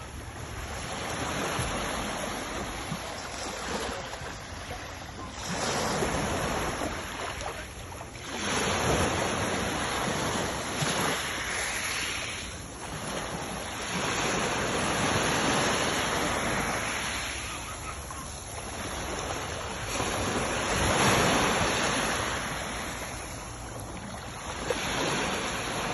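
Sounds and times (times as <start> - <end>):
sea waves breaking: 0.0 - 25.9.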